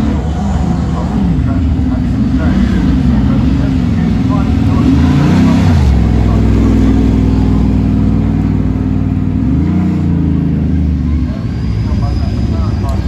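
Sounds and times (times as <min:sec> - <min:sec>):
race car engine at low revs: 0:00.0 - 0:13.0.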